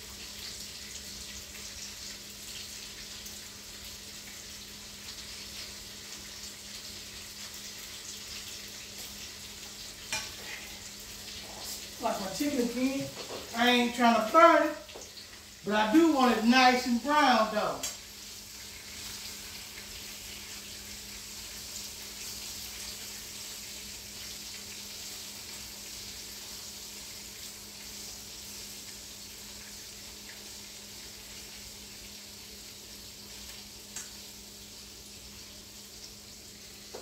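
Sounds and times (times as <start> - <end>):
chicken sizzling in frying pan: 0.0 - 37.0.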